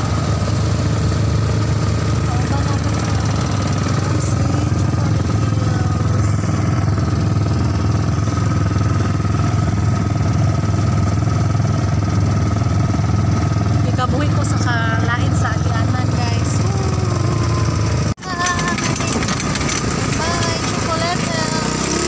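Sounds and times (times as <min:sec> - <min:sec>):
buggy engine running: 0:00.0 - 0:22.0.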